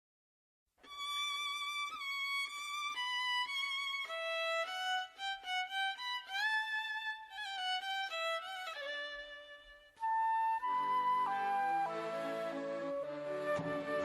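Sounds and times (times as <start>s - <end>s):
solo violin slow melody: 0.8s - 14.0s.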